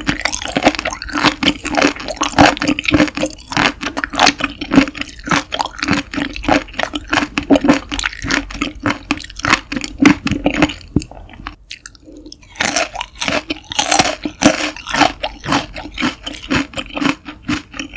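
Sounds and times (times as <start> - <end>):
wet chewing of raw seafood: 0.0 - 17.9.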